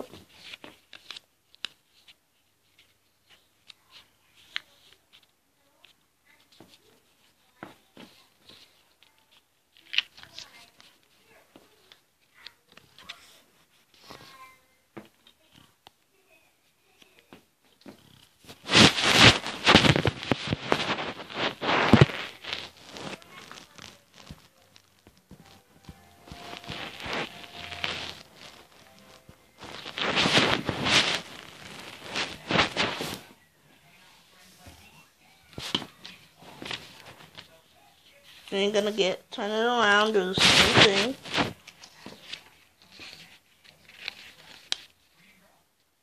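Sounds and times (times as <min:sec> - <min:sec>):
paper crackling while folded: 0:00.0 - 0:14.5, 0:18.0 - 0:33.3, 0:35.4 - 0:45.3.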